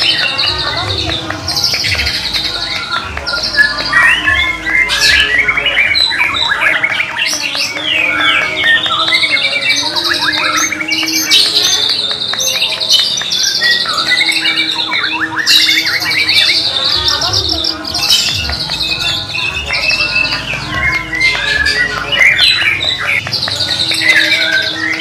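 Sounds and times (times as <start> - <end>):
birds singing trills and whistles: 0.0 - 25.0.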